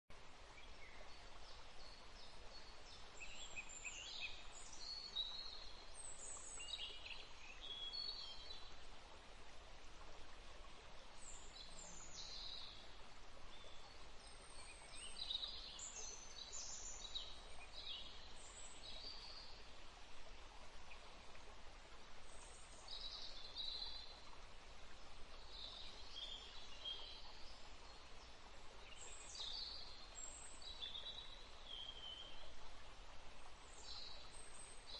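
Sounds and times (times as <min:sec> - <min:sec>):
faint background hiss: 0:00.1 - 0:34.9
songbirds chirping: 0:00.1 - 0:34.9.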